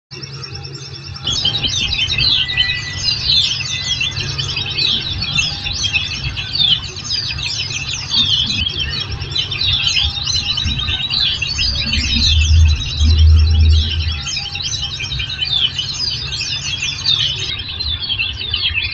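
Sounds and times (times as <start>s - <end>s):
low background hum: 0.1s - 18.9s
small birds twittering and trilling: 0.1s - 18.9s.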